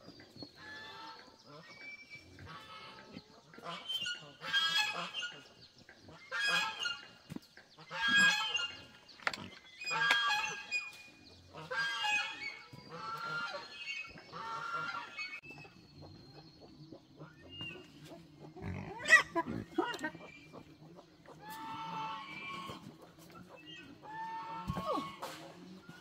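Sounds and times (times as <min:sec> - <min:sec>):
farm animals crying: 0:00.0 - 0:07.2, 0:07.8 - 0:26.0.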